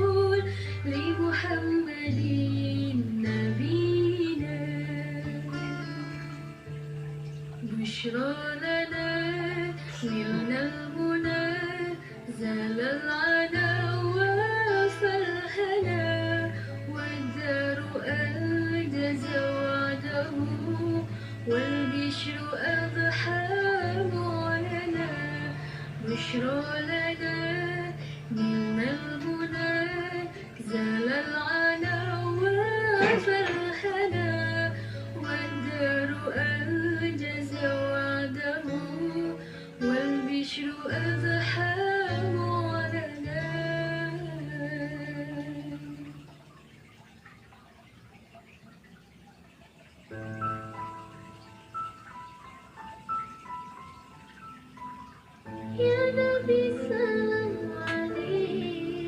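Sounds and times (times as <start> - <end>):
plucked strings: 0.0 - 47.0, 50.1 - 59.0
sung melody: 0.0 - 48.3, 49.8 - 59.0.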